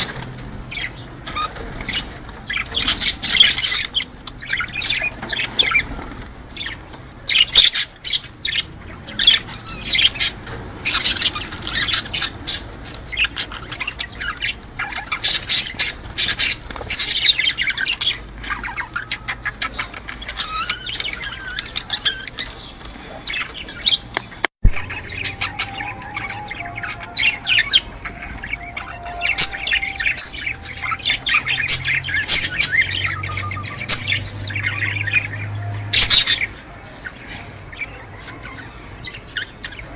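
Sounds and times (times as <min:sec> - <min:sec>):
cage birds chirping and squawking: 0:00.0 - 0:39.9.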